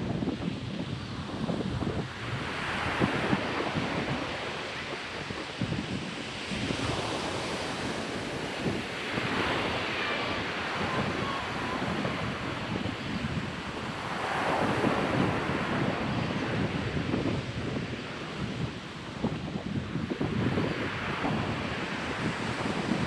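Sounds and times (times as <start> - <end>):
waves washing on a beach: 0.0 - 23.0
wind buffeting the microphone: 0.0 - 23.0.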